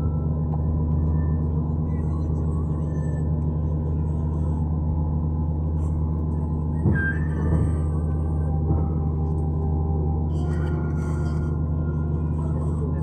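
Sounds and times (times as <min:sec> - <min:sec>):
cabin air system hum: 0:00.0 - 0:13.0.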